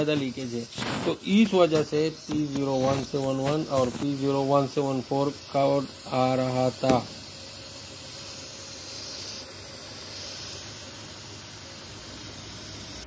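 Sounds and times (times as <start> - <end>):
hiss of vacuum leak: 0.0 - 13.0.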